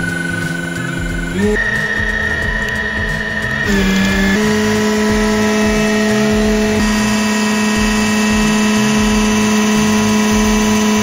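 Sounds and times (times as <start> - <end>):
hydraulic pump whining: 0.0 - 11.0.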